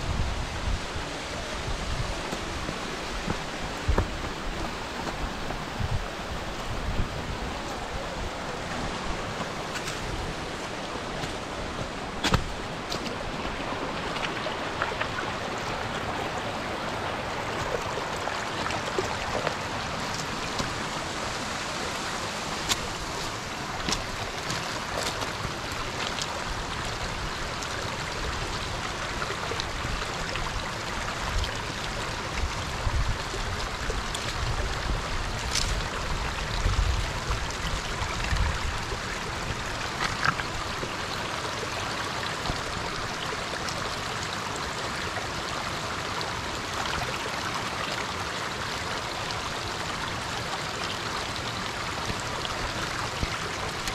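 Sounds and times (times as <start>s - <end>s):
stream running over stones: 0.0s - 53.9s.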